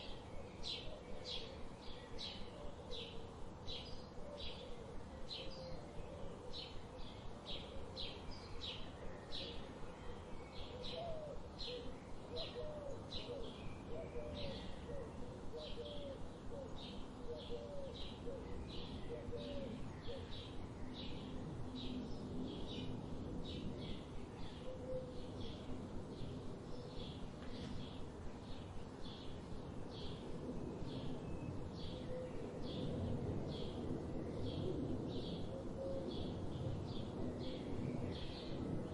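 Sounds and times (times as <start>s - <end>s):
faint background hiss: 0.0s - 38.9s.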